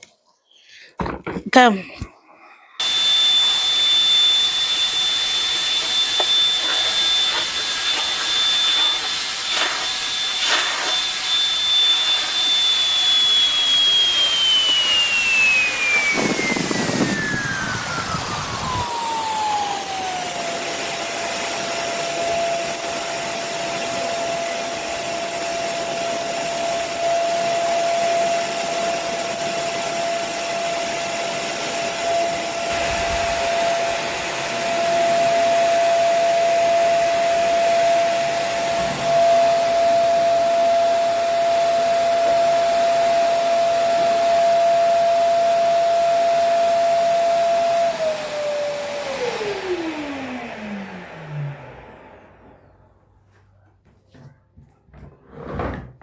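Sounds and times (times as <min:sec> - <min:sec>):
carpet washer motor whining: 0:02.8 - 0:52.9.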